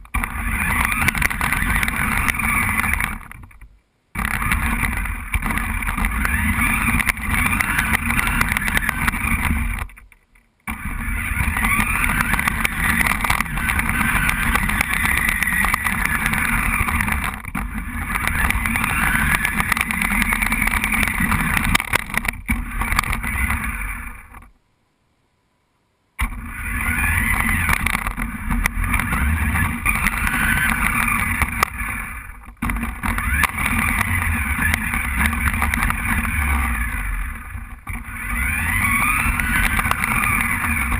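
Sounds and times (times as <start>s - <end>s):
toy car electric motor whining: 0.0s - 3.6s, 4.2s - 10.0s, 10.7s - 24.5s, 26.2s - 40.9s.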